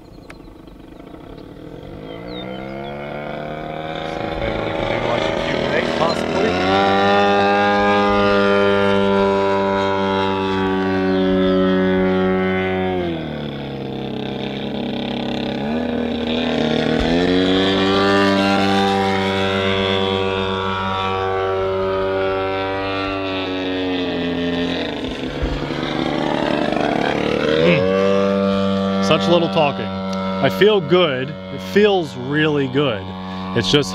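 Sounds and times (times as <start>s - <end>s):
model plane engine at high throttle: 0.0s - 33.9s.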